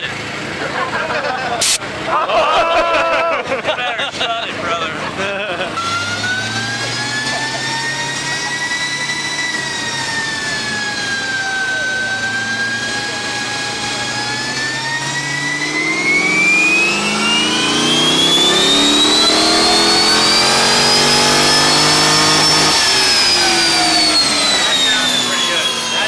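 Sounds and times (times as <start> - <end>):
engine revving on dyno: 0.0 - 2.4, 4.6 - 26.0
supercharger whine: 0.0 - 26.0.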